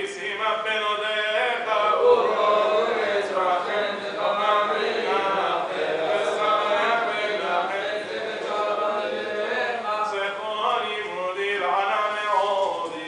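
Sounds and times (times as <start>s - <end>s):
men chanting prayers: 0.0s - 13.0s.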